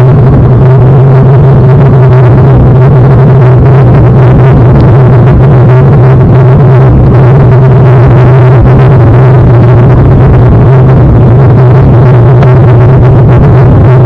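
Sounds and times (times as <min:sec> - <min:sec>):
low hum: 0:00.0 - 0:14.0
rough rushing noise: 0:00.0 - 0:14.0.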